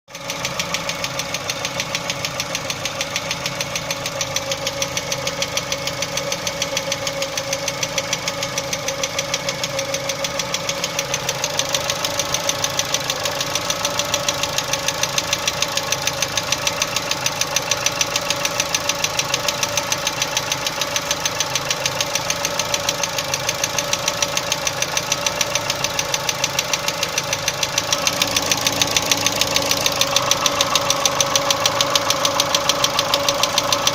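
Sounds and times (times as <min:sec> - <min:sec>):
car engine knocking: 0:00.1 - 0:33.9.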